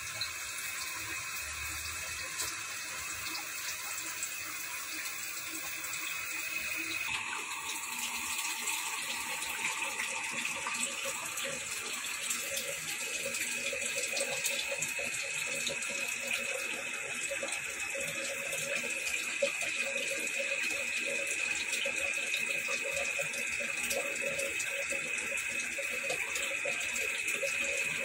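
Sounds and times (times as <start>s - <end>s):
water pouring into pot: 0.0s - 28.0s.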